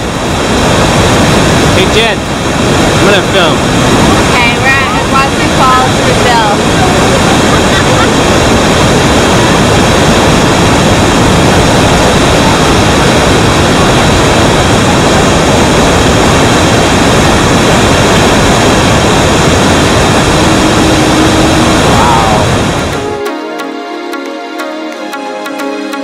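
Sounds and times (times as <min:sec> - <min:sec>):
rushing white water: 0:00.0 - 0:23.4.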